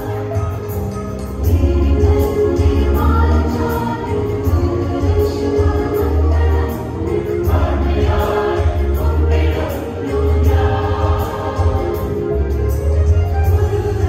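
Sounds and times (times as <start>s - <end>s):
deep bass accompaniment: 0.0s - 14.0s
choir singing a hymn: 1.5s - 14.0s.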